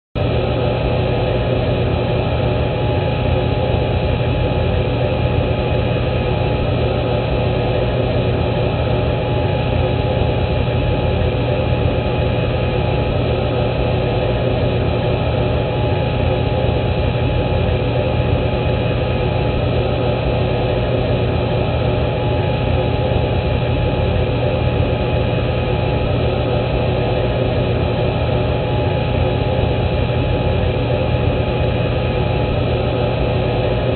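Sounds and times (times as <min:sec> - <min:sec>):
cockpit hum and hiss: 0:00.2 - 0:33.9.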